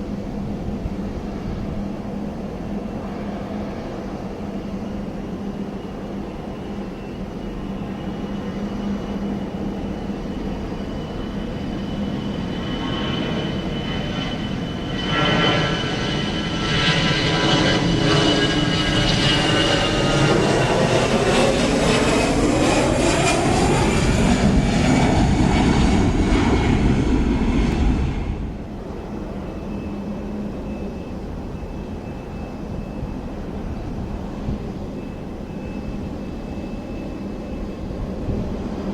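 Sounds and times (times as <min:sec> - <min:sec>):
jet airliner passing: 0:00.0 - 0:38.9.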